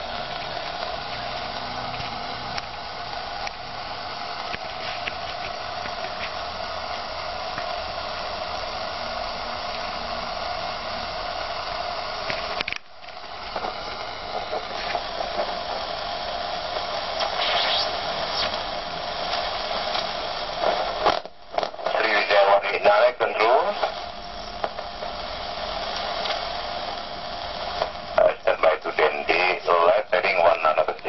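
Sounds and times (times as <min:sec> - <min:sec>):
radio receiver hiss: 0:00.0 - 0:31.0.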